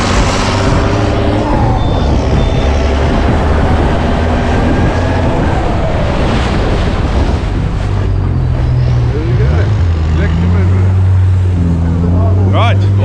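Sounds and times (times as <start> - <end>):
boat engines revving: 0.0 - 13.0
water and wind rushing: 0.0 - 13.0.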